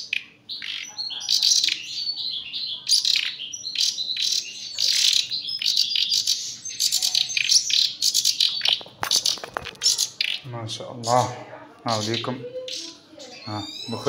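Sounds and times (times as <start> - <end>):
chicks chirping begging calls: 0.0 - 14.0.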